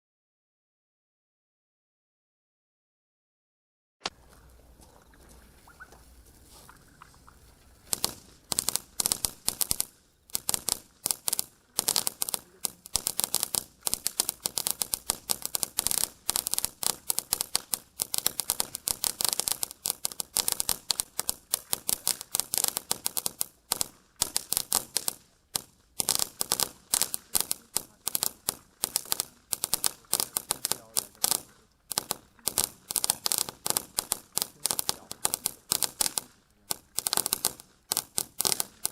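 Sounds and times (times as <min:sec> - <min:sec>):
faint fuse hiss: 0:04.0 - 0:38.9
firework pops and cracks: 0:05.2 - 0:38.9.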